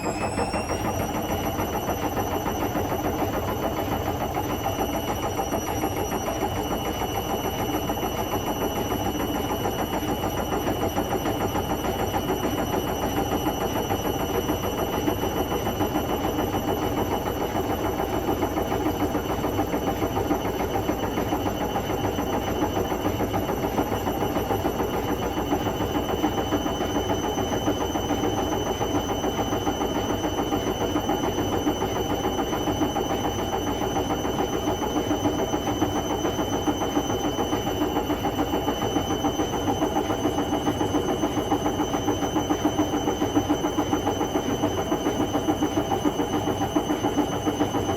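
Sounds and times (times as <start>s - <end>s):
high-pitched whine: 0.0s - 47.9s
washing machine spinning: 0.0s - 47.9s.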